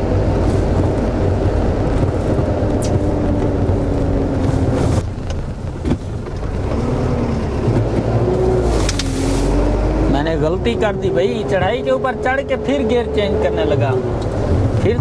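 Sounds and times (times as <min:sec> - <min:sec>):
truck diesel engine climbing: 0:00.0 - 0:15.0.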